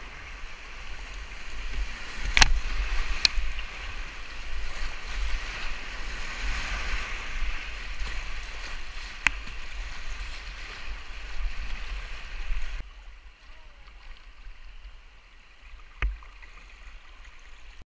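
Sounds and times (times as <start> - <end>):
paddle splashes: 0.0 - 17.8.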